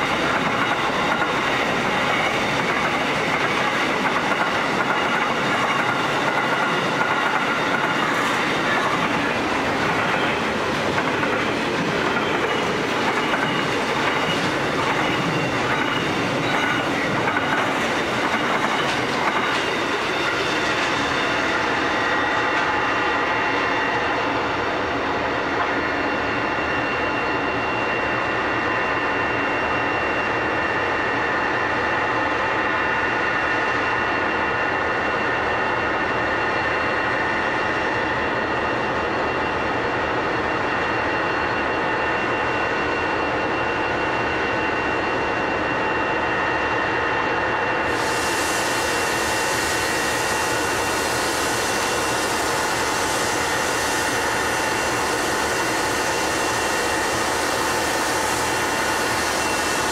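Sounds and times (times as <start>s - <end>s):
diesel locomotives creeping: 0.0s - 59.9s.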